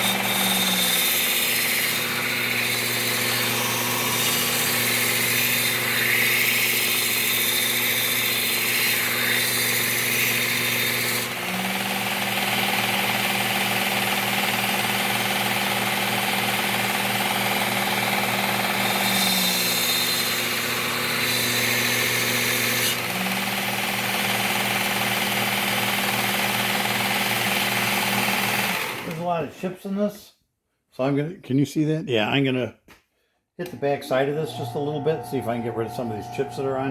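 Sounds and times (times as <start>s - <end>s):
belt sharpener grinding metal: 0.0s - 29.2s, 33.6s - 36.9s.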